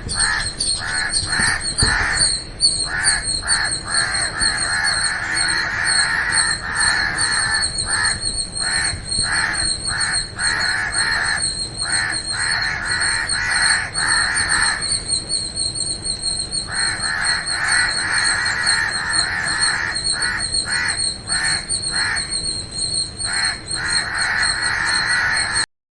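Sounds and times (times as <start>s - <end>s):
flock of birds calling harshly: 0.0s - 25.7s
steady high-pitched whine: 0.0s - 25.7s.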